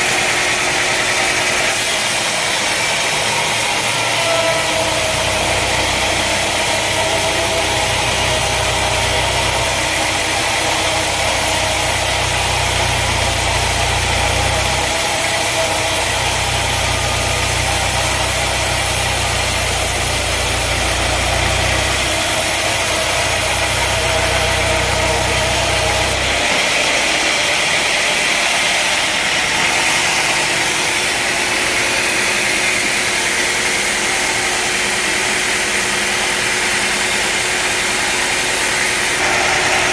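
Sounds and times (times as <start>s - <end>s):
deep engine hum: 0.0s - 39.9s
sawmill machinery running: 0.0s - 39.9s.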